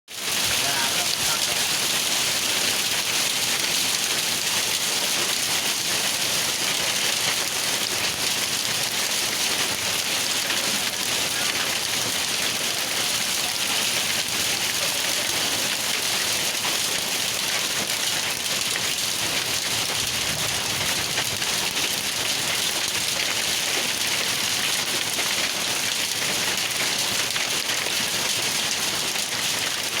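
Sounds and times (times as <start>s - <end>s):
hail and rain pelting down: 0.1s - 30.0s.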